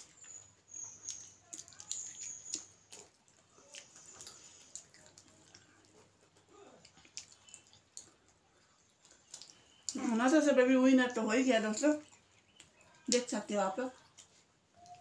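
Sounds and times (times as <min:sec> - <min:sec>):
person chewing: 0:00.0 - 0:10.2, 0:12.0 - 0:13.1, 0:14.0 - 0:15.0.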